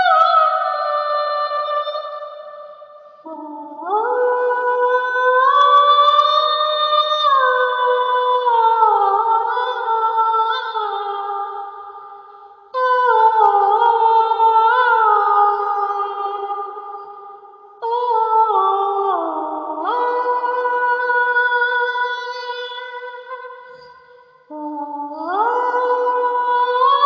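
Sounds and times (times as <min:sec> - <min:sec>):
wordless a cappella vocalizing: 0:00.0 - 0:27.0.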